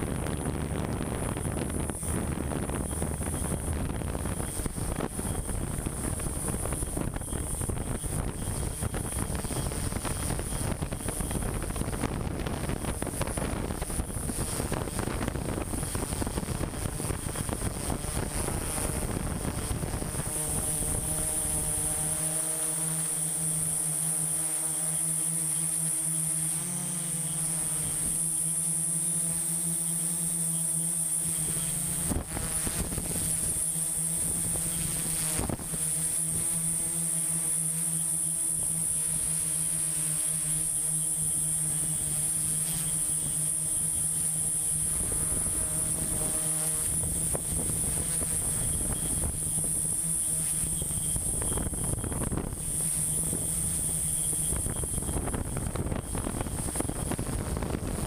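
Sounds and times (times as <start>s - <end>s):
wind on microphone: 0.0s - 29.3s, 31.0s - 58.0s
drone motors humming and whining: 0.0s - 58.0s.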